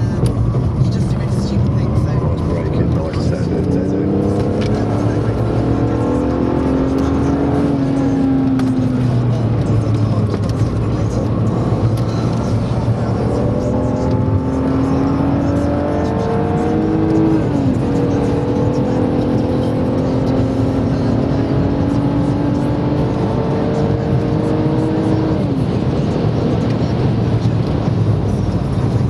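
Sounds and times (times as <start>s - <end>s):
car engine accelerating: 0.0s - 29.0s
wind and tyre noise: 0.0s - 29.0s.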